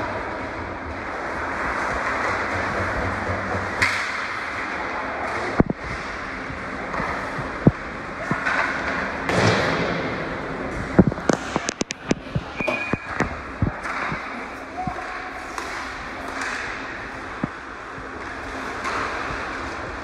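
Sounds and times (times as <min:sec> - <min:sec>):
game noise in large hall: 0:00.0 - 0:20.0.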